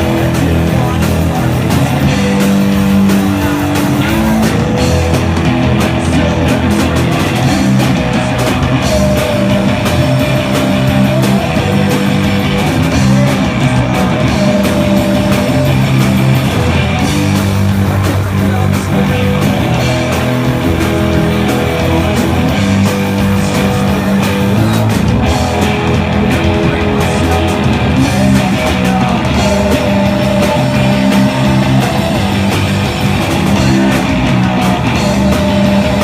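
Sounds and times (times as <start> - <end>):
bass guitar: 0.0 - 36.0
drums: 0.0 - 36.0
electric guitars: 0.0 - 36.0.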